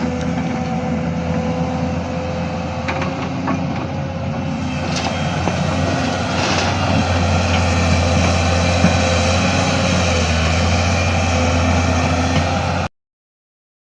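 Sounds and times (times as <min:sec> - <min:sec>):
excavator engine running: 0:00.0 - 0:12.9.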